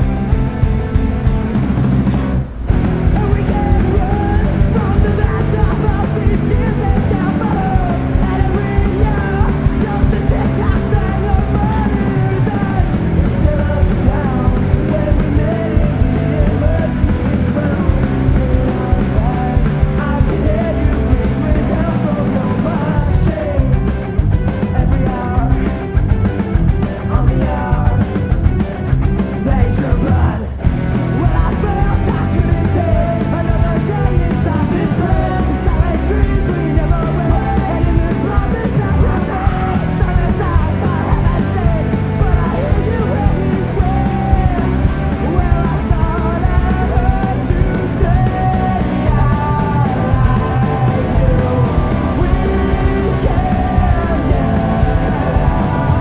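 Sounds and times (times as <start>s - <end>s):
rock song with singing: 0.0s - 56.0s.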